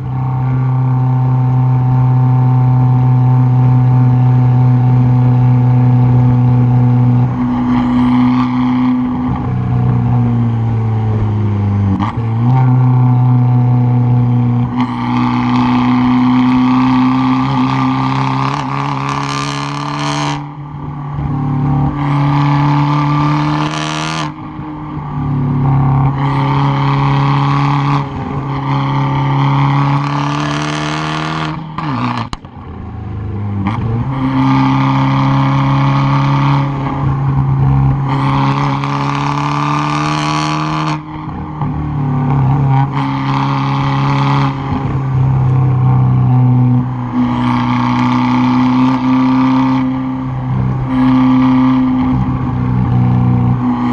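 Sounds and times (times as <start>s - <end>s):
car exhaust engine note: 0.0s - 53.9s.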